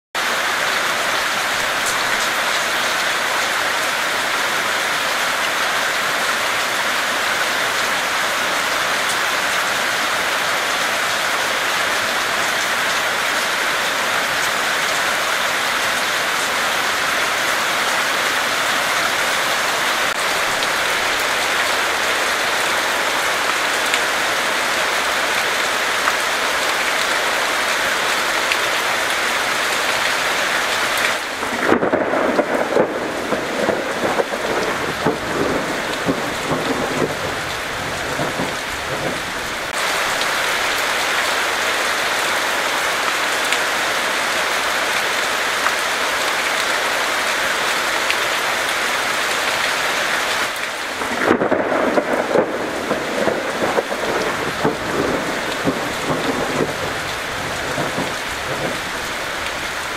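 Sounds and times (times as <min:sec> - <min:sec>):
heavy rain on trees: 0:00.1 - 0:59.9.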